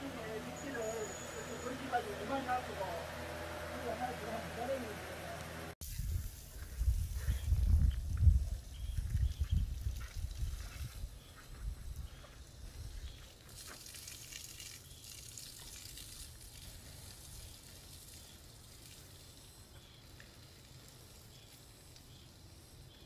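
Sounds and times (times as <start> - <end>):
garden hose spraying water: 0.0 - 22.9.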